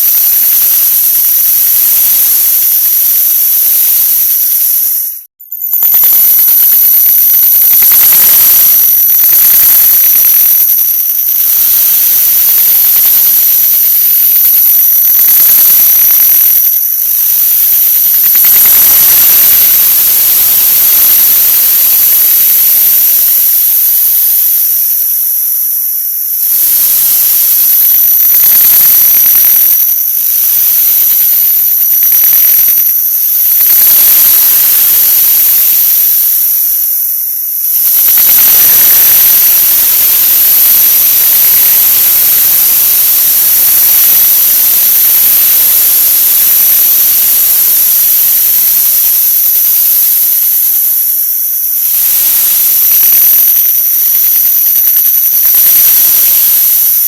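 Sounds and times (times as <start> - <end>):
harsh static-like hiss: 0.0 - 57.0
high whistling tones: 0.0 - 57.0.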